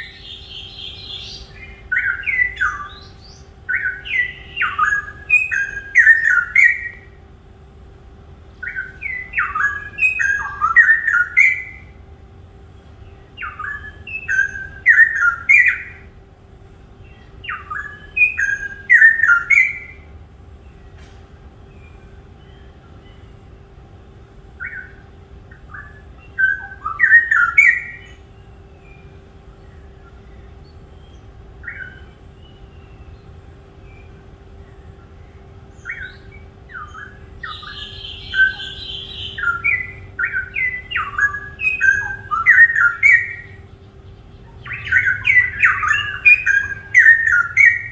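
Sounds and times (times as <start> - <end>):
songbird chirping: 0.0 - 47.9
steady low hum: 0.0 - 47.9.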